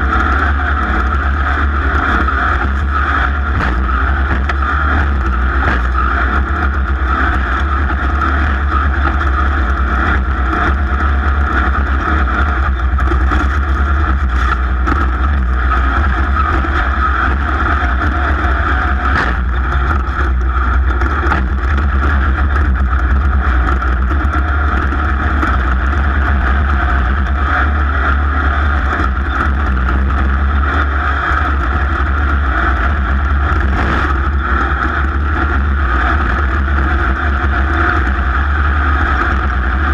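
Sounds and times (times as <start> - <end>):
racing engine at high revs: 0.0 - 39.9.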